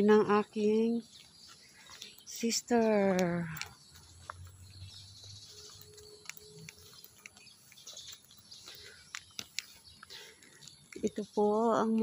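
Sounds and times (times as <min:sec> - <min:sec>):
faint bird chirps: 0:00.0 - 0:12.0
sharp clicks: 0:01.9 - 0:12.0.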